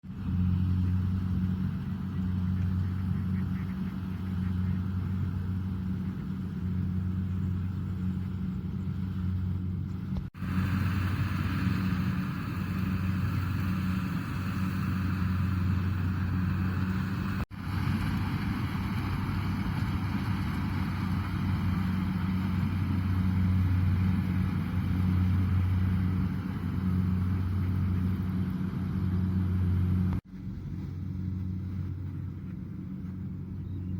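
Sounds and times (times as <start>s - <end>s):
diesel engine drone: 0.0s - 33.9s.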